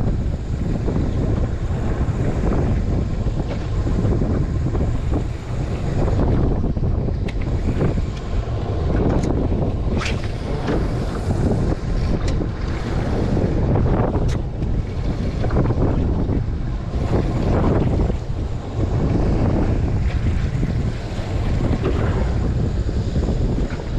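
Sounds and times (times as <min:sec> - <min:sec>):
water lapping against boat: 0:00.0 - 0:23.9
wind buffeting microphone: 0:00.0 - 0:23.9.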